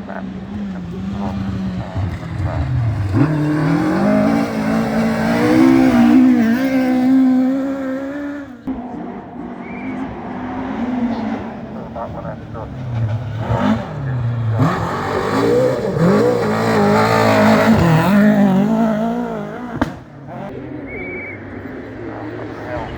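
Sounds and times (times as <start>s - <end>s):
rally car engine revving: 0.0s - 22.9s.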